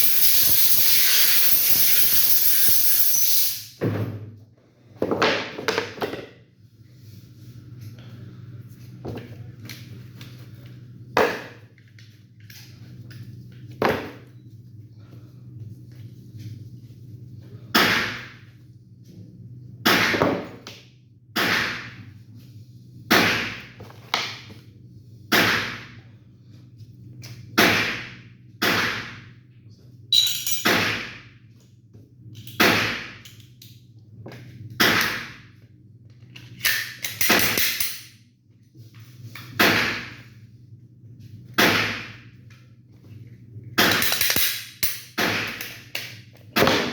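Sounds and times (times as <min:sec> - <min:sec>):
steady low hum: 0:03.6 - 0:46.9.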